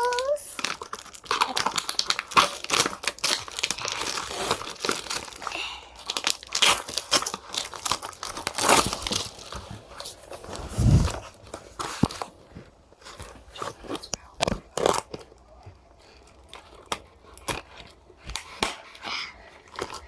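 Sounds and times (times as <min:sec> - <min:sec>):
packaging tearing and crinkling: 0:00.0 - 0:12.4, 0:13.0 - 0:19.0.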